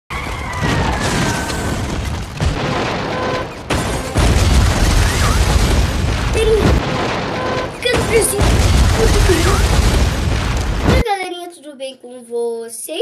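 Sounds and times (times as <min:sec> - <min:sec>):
deep rumbling with low booming: 0:00.6 - 0:11.0.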